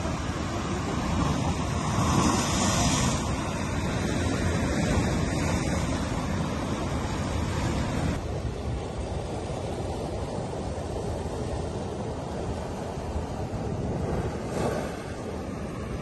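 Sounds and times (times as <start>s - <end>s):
ocean waves breaking on rocks: 0.0s - 16.0s
wind buffeting microphone: 0.0s - 16.0s.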